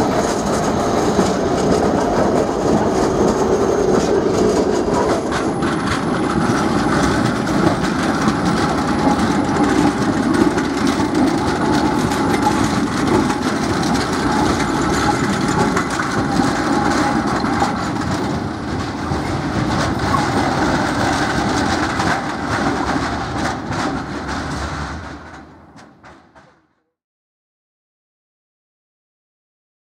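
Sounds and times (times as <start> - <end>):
tram rolling: 0.0 - 26.7
tram wheels clattering over points: 0.0 - 26.7.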